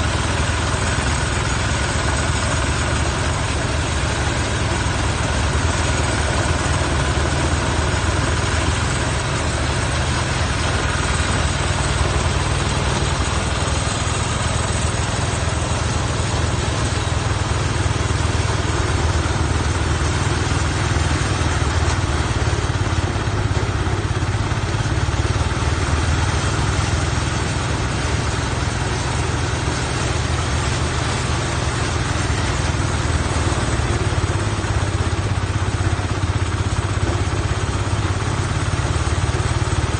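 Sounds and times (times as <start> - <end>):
farm machine engine running: 0.0 - 39.9.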